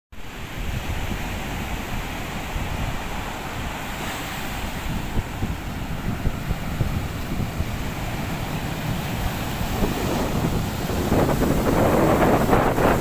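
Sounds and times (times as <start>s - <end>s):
sea surf washing on beach: 0.2s - 13.0s
wind buffeting microphone: 0.3s - 13.0s.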